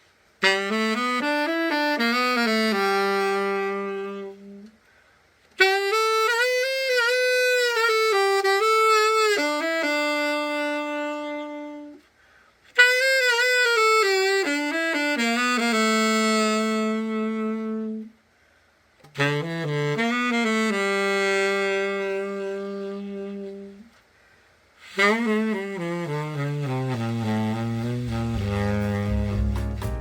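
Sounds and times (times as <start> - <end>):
solo tenor saxophone: 0.3 - 18.3, 19.0 - 30.0.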